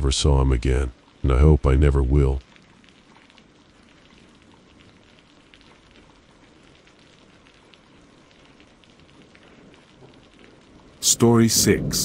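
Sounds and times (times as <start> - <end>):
faint steady rain: 0.0 - 12.0.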